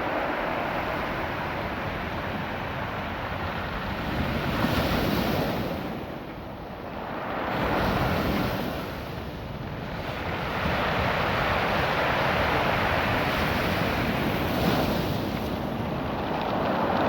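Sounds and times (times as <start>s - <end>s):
surf washing over pebbles: 0.0s - 17.0s.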